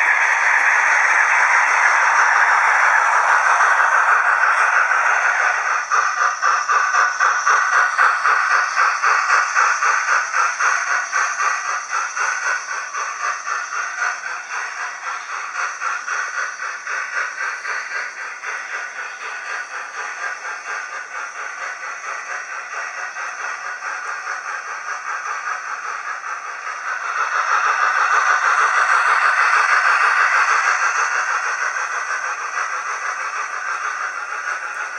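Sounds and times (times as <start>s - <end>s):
model train wheels rattling on rails: 0.0s - 34.9s.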